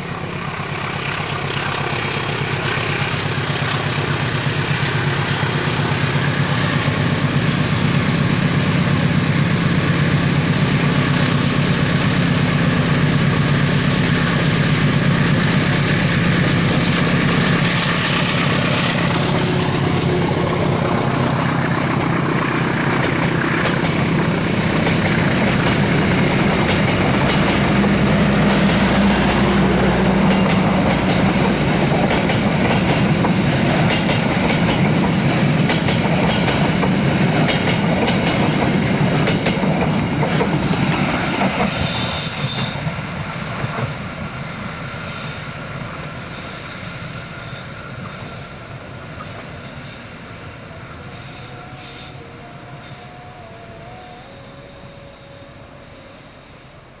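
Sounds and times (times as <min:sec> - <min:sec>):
coaches rolling along track: 0:00.0 - 0:57.0
locomotive engine drone: 0:00.0 - 0:57.0.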